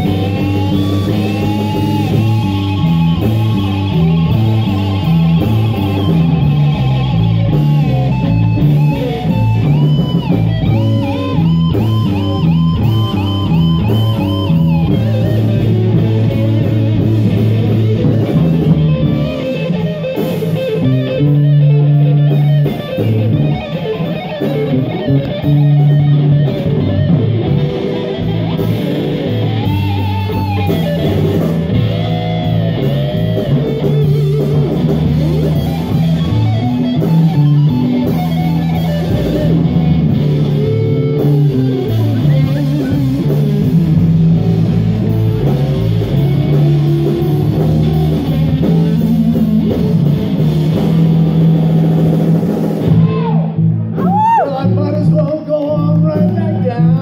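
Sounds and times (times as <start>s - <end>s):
lead guitar bent notes: 0.0s - 57.0s
live rock band playing: 0.0s - 57.0s.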